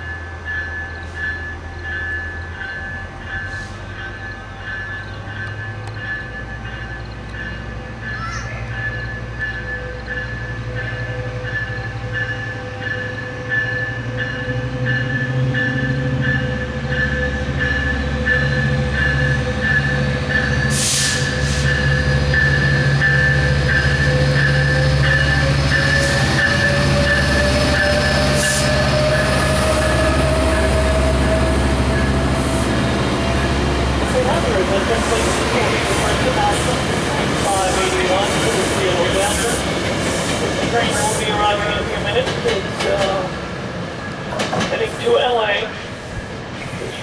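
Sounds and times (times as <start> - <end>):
train low rumble and hum: 0.0 - 47.0.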